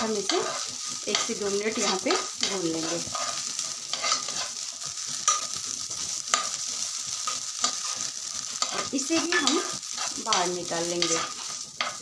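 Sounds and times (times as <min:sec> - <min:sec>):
rice sizzling in a pan: 0:00.0 - 0:12.0
spoon scraping a pan: 0:00.0 - 0:12.0.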